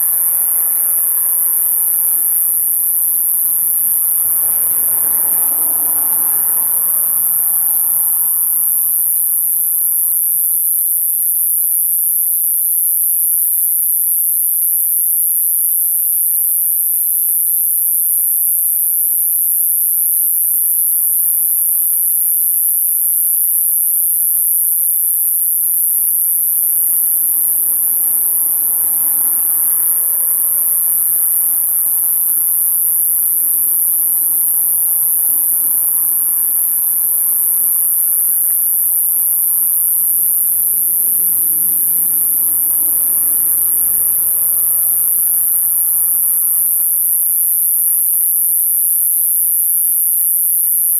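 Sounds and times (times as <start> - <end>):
katydid buzzing trill: 0.0 - 50.9.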